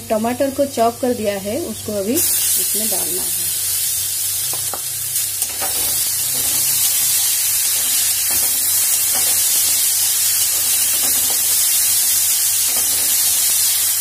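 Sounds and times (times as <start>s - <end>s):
vegetables sizzling in hot oil: 0.1s - 14.0s.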